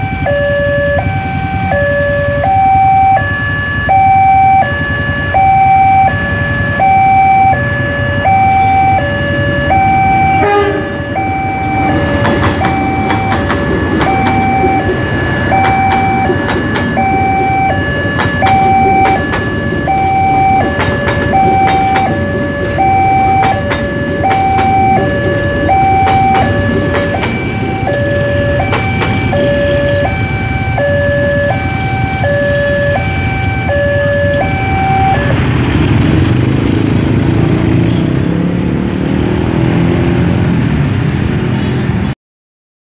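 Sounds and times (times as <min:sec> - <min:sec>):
level crossing two-tone alarm: 0:00.0 - 0:35.6
passing train rumble and clatter: 0:00.0 - 0:42.1.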